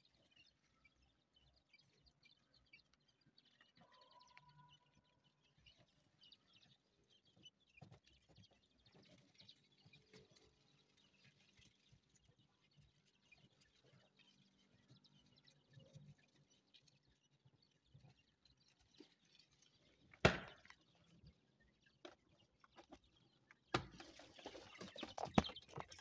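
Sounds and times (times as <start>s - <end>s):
quail chicks peeping: 0.0s - 26.0s.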